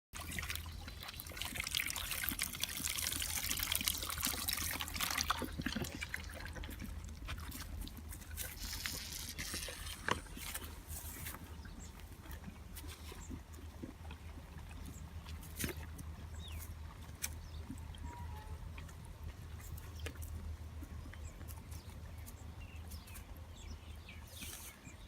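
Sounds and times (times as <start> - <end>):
liquid trickling and splashing: 0.2 - 23.2.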